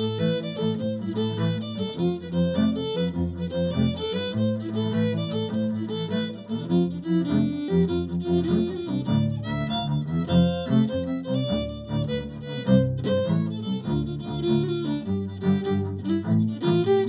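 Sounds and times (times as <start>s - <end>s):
fiddle playing a jig: 0.0s - 17.0s.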